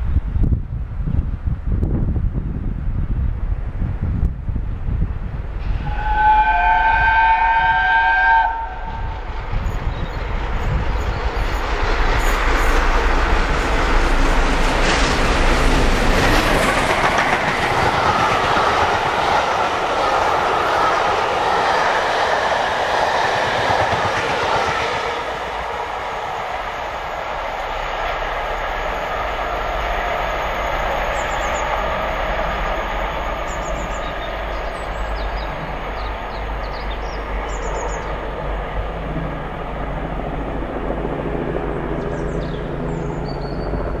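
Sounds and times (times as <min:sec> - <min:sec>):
train rushing past: 0:01.3 - 0:44.0.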